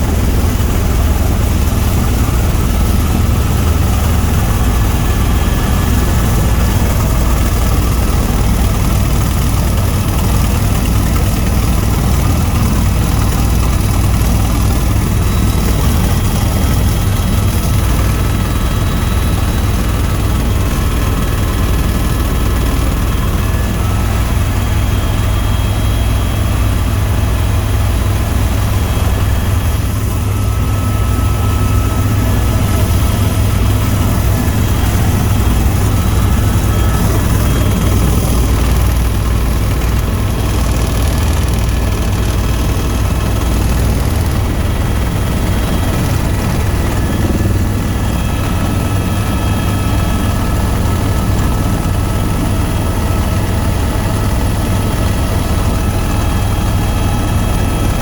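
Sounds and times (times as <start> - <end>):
helicopter rotor rumble: 0.0 - 58.0.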